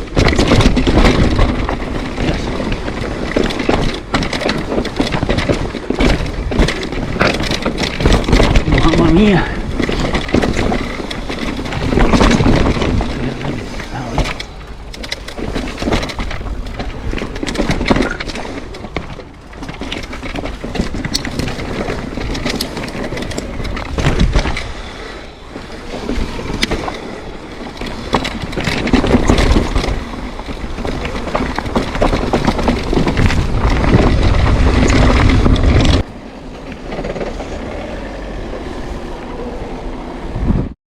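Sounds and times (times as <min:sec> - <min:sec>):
bike knocks and rattles: 0:00.0 - 0:39.5
bike tyres grinding over dirt and rock: 0:00.0 - 0:40.7
heavy rumble: 0:00.0 - 0:40.8.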